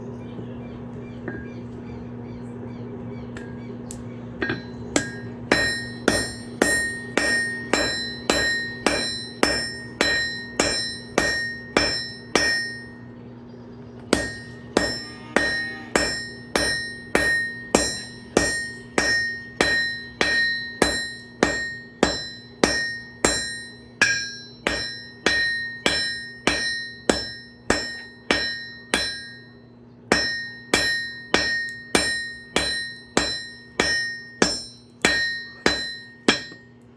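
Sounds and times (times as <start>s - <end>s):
steady low hum: 0.0s - 36.9s
hammer striking metal on anvil: 4.4s - 13.1s, 14.1s - 36.8s.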